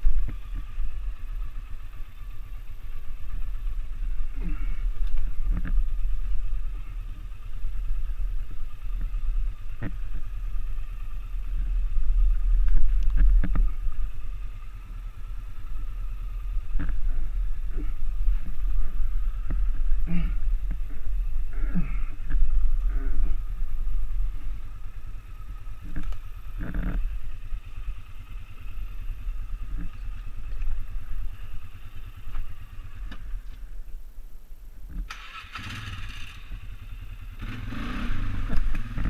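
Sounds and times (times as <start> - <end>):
atv engine running: 0.0 - 34.2, 34.8 - 39.0.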